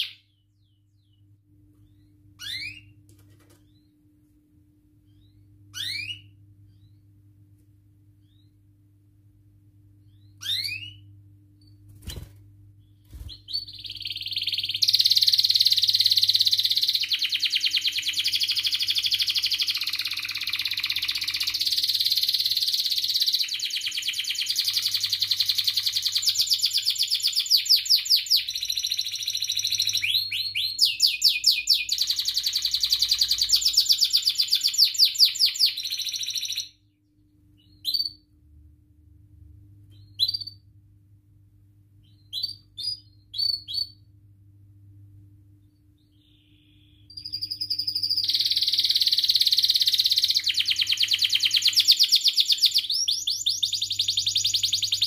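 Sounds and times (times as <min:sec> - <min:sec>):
canary singing trills: 0:00.0 - 0:03.0, 0:05.1 - 0:07.0, 0:10.0 - 0:36.8, 0:37.6 - 0:38.3, 0:39.9 - 0:40.6, 0:42.0 - 0:44.1, 0:46.0 - 0:55.0
faint steady hum: 0:00.0 - 0:55.0.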